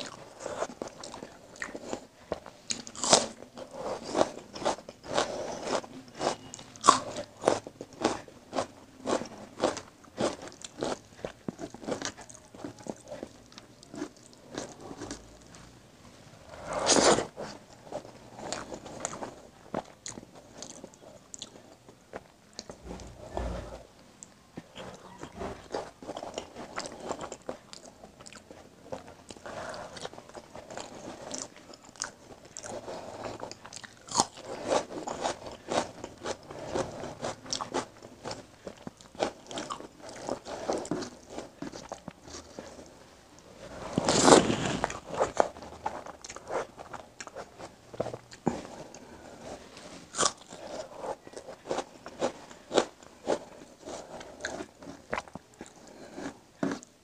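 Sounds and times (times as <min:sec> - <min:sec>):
chewing and wet mouth sounds: 0:00.0 - 0:15.6, 0:17.2 - 0:22.8, 0:24.2 - 0:43.0, 0:44.0 - 0:57.0.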